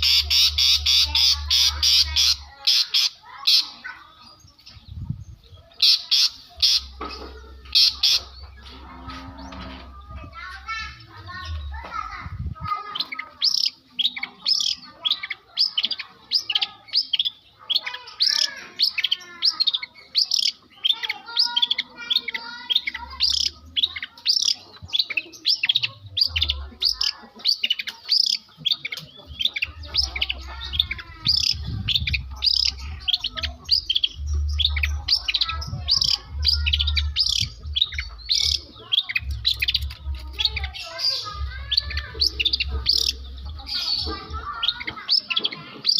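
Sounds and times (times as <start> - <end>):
bird singing varied chirps and trills: 0.0 - 45.9.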